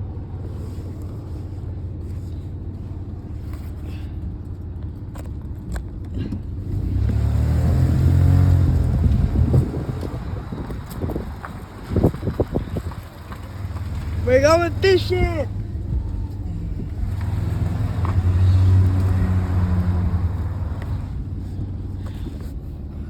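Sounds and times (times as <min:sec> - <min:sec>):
car engine low rumble: 0:00.0 - 0:23.0.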